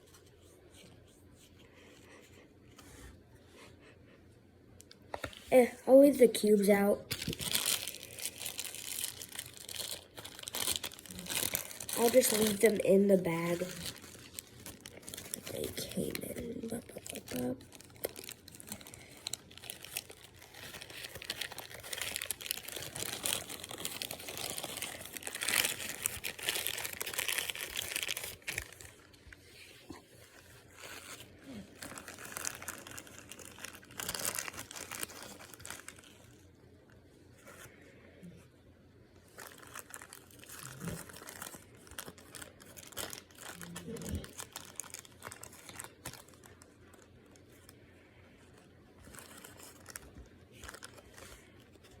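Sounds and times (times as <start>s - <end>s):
plastic packaging crinkling: 5.2s - 29.4s, 30.1s - 36.5s, 39.3s - 52.0s.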